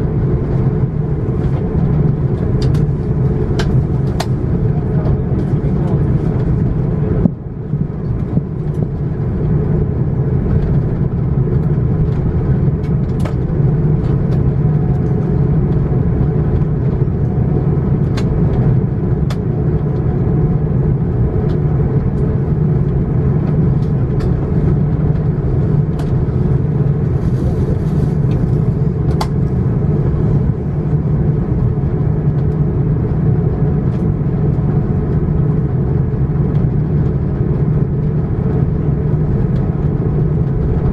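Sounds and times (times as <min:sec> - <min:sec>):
aircraft cabin rumble: 0:00.0 - 0:40.9
clicks and rattles in cabin: 0:00.2 - 0:20.2, 0:20.8 - 0:40.9.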